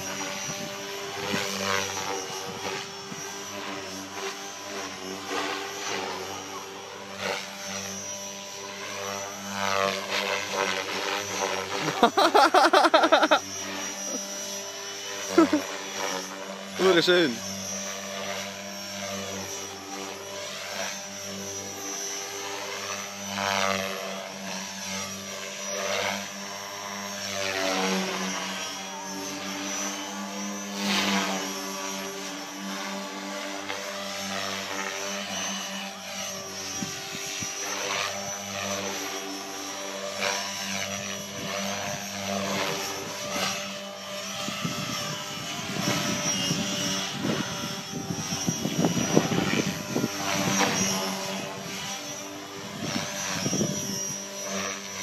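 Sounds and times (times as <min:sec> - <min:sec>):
rc helicopter rotor and motor whine: 0:00.0 - 0:55.0.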